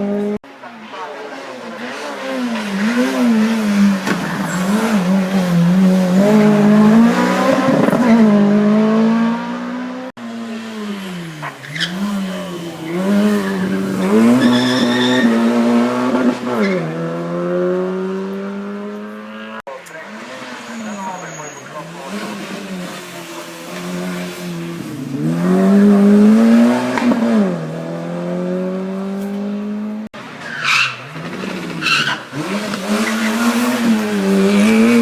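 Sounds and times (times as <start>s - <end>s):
racing car engine revving: 1.3s - 30.1s, 31.0s - 35.0s.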